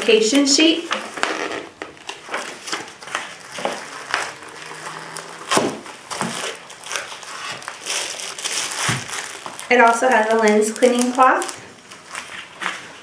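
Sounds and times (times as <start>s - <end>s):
packaging rustling and crinkling: 1.0s - 13.0s.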